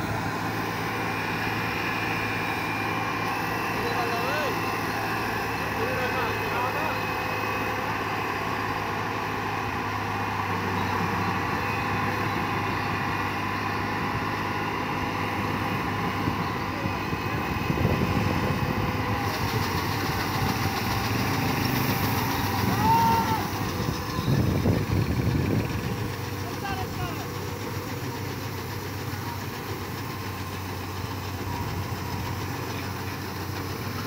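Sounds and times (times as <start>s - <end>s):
combine harvester diesel engine running: 0.0s - 34.0s.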